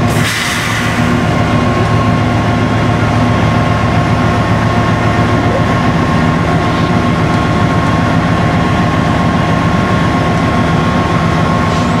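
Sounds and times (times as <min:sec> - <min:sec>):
car running noise: 0:00.0 - 0:12.0
diesel locomotive rumble: 0:00.0 - 0:12.0.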